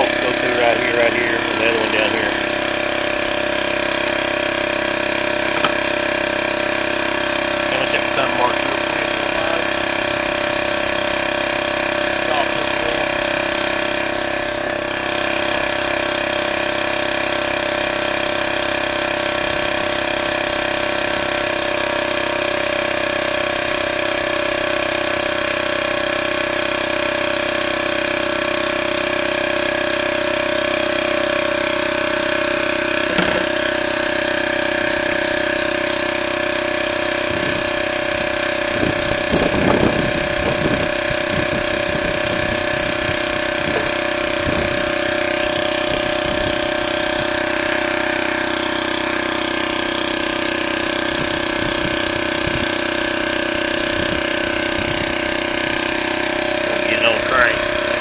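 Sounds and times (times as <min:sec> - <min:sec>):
machine drone: 0:00.0 - 0:58.0.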